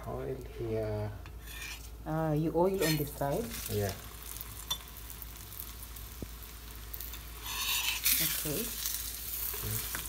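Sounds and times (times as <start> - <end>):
flatbread sizzling in oil: 1.4 - 10.0.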